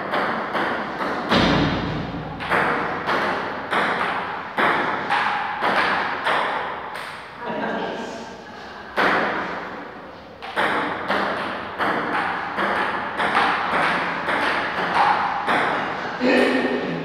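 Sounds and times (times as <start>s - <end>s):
ping-pong ball hitting paddles and table: 0.0s - 7.4s, 8.8s - 16.8s.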